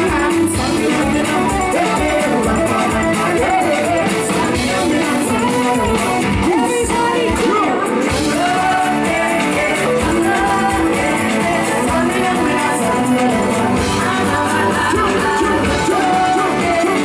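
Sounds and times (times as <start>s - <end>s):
dance music with singing: 0.0s - 17.0s.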